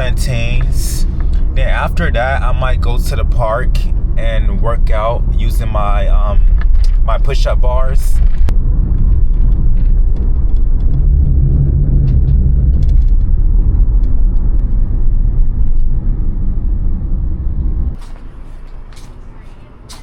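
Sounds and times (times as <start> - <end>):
car driving road rumble: 0.0 - 20.0.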